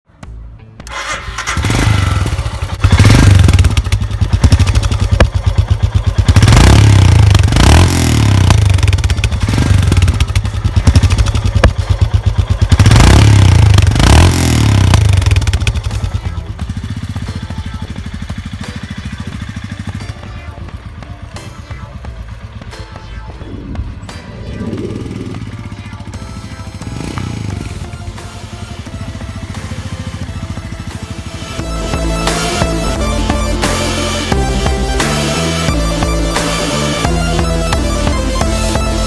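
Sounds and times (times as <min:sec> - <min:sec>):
motorcycle engine revving and idling: 0:00.8 - 0:39.0.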